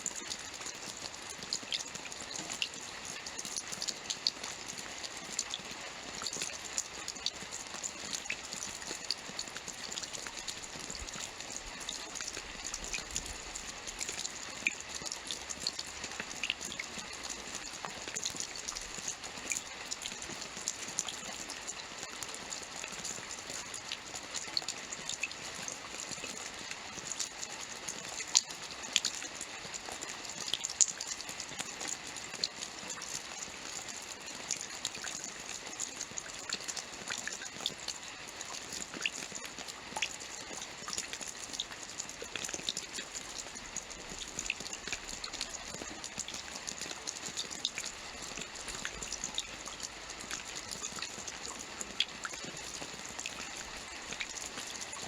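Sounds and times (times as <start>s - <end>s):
rain hiss: 0.0s - 55.0s
raindrops ticking on hard surface: 0.0s - 55.0s.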